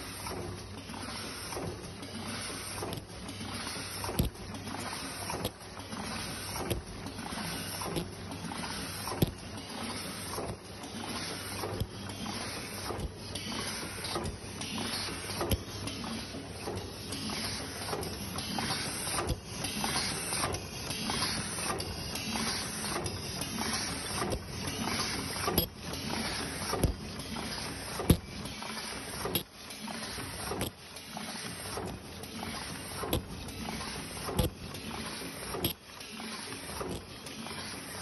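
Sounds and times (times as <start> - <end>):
machine mechanical clatter: 0.0 - 38.0.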